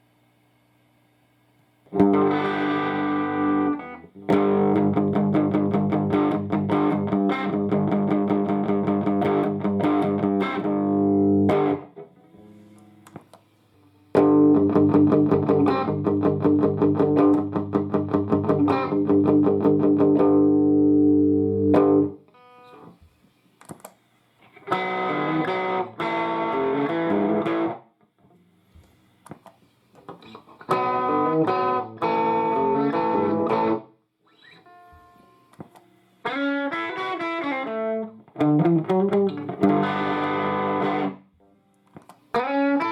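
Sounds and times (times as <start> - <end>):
overdriven electric guitar: 1.9 - 13.4, 14.1 - 23.0, 24.4 - 28.4, 29.3 - 42.9.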